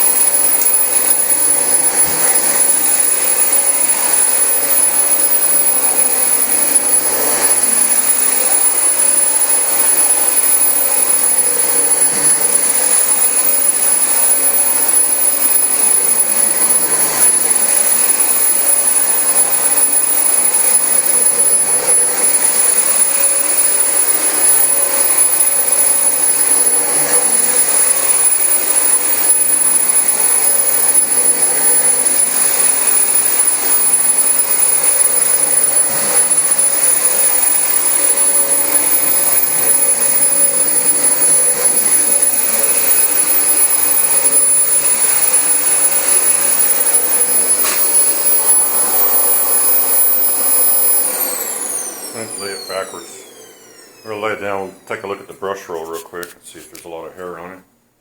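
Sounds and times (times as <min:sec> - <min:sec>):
vacuum cleaner running on carpet: 0:00.0 - 0:55.1.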